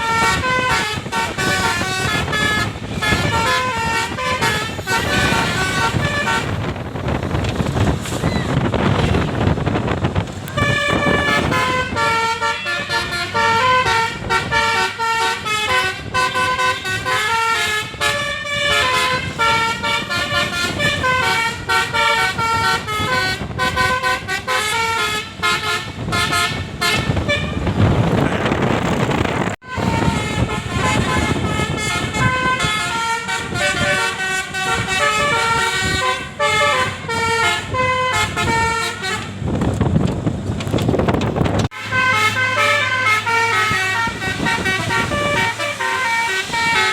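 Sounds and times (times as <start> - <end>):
multi-tone bus horn melody: 0.0 - 7.4, 8.5 - 39.6, 41.6 - 46.9.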